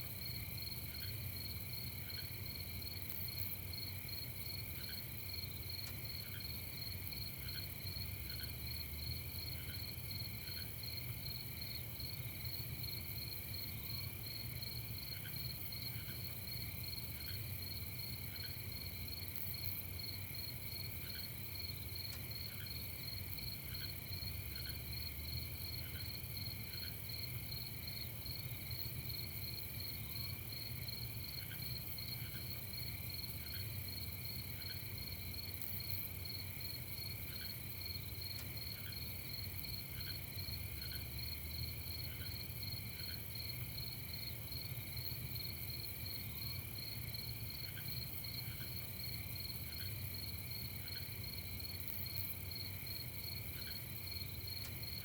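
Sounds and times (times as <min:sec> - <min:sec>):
crickets trilling: 0:00.2 - 0:55.0.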